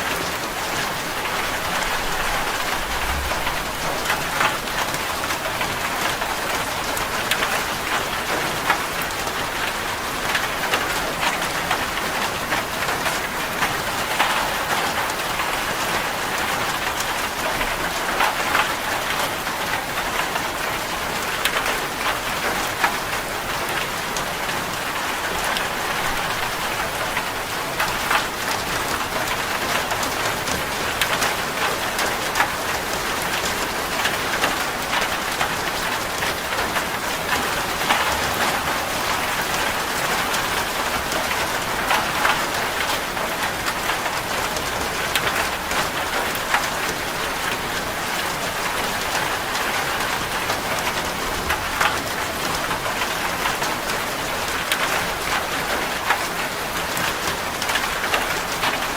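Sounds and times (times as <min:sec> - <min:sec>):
rain drumming on metal roof: 0:00.0 - 0:58.9.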